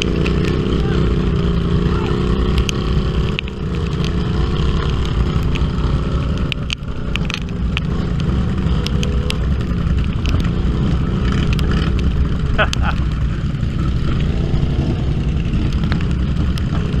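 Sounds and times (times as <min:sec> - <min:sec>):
sharp clicks and knocks: 0:00.0 - 0:00.8, 0:02.3 - 0:17.0
utility vehicle engine running: 0:00.0 - 0:17.0.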